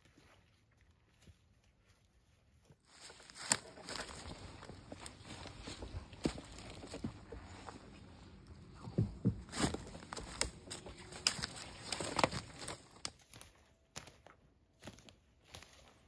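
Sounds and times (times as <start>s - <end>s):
footsteps crunching through dry leaves: 2.8s - 16.0s.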